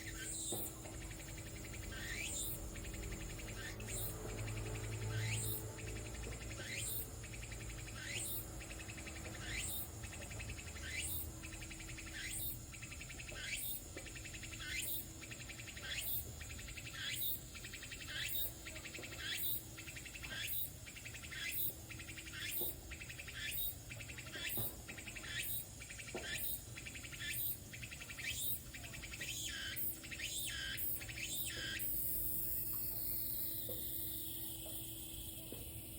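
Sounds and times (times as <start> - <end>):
cicada calling: 0.0 - 35.9.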